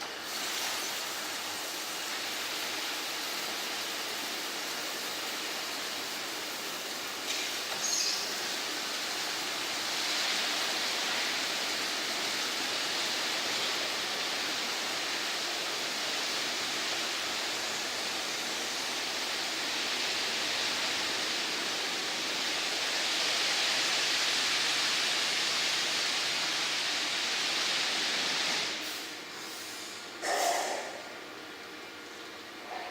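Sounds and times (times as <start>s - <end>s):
car wash water spraying: 0.0s - 31.2s.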